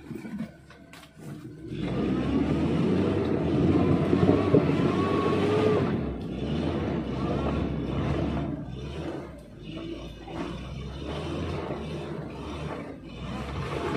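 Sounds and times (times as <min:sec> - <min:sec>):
vehicle engine revving: 0:01.3 - 0:13.9.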